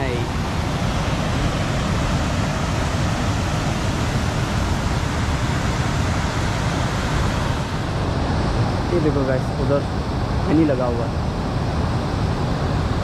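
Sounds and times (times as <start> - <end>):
river roaring over rapids: 0.0 - 13.0.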